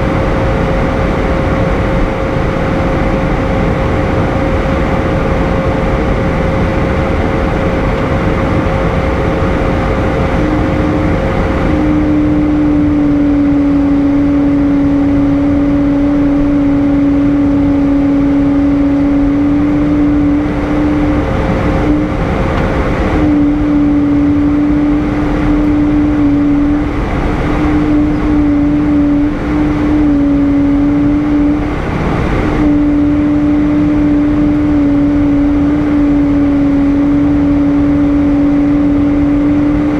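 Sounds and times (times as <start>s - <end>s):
jet engine and airflow rush: 0.0s - 39.9s
steady hum: 0.0s - 39.9s.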